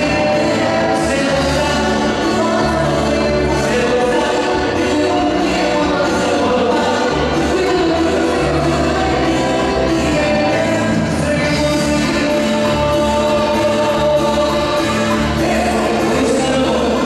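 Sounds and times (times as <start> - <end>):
live band playing dance music: 0.0 - 17.0
person singing: 0.0 - 17.0.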